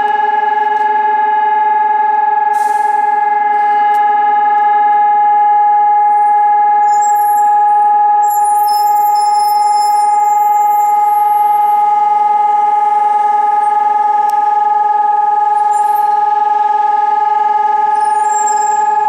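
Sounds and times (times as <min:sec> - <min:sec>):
warning siren steady tone: 0:00.0 - 0:19.0.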